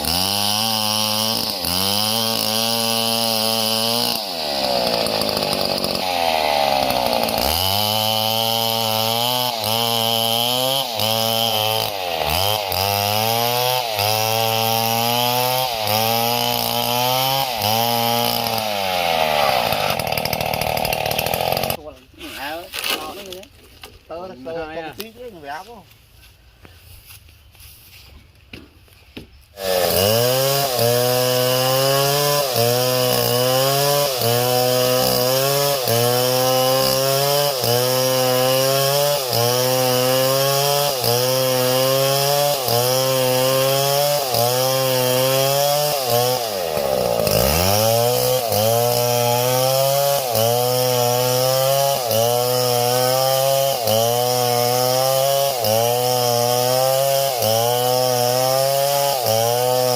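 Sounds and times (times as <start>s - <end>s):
small chainsaw running hard: 0.0s - 21.8s, 29.6s - 59.9s.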